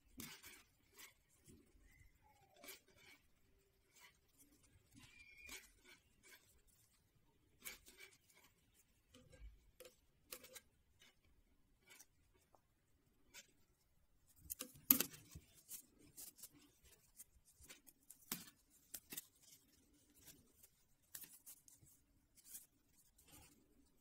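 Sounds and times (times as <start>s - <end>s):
knitting needles clicking: 0.0s - 12.6s, 14.2s - 24.0s.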